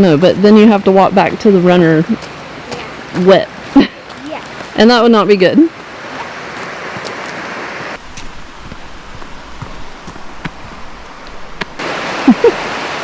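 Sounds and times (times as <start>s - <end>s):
creek water over rocks: 0.0s - 8.0s, 9.1s - 13.0s.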